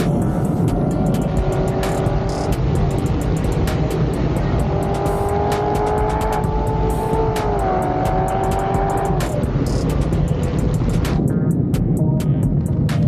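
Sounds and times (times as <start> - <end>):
background music with steady beat: 0.0 - 13.0
car engine at highway speed: 0.0 - 13.0.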